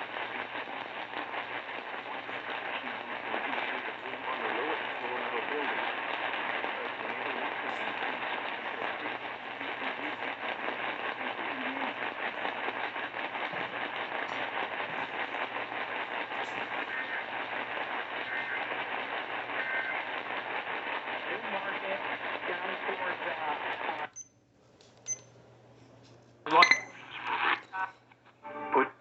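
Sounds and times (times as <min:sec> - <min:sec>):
radio static crackle: 0:00.0 - 0:24.2, 0:26.5 - 0:29.0.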